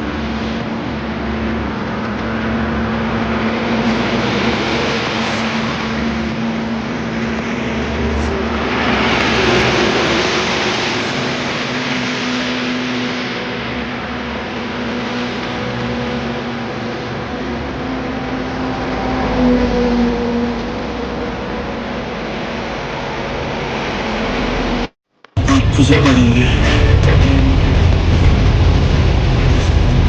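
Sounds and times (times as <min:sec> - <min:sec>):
car engine hum: 0:00.0 - 0:30.0.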